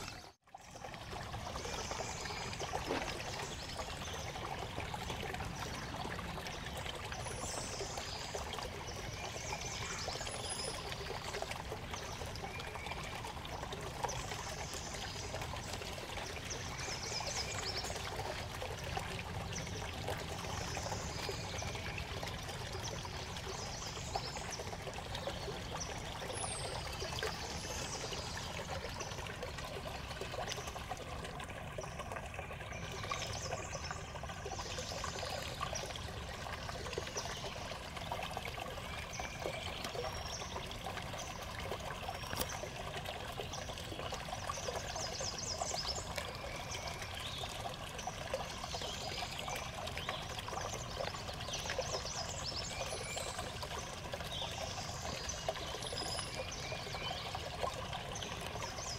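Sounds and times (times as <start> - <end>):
stream water running: 0.0 - 58.9.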